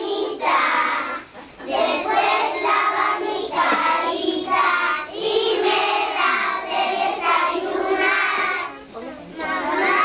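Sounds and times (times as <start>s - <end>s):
young children singing: 0.0s - 8.8s, 9.4s - 10.0s.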